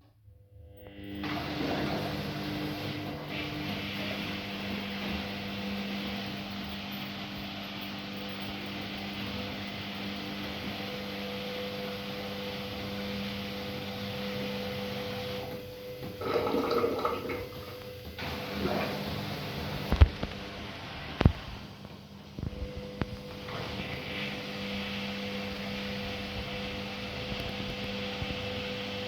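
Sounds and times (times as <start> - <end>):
washing machine water rushing: 0.9 - 29.0.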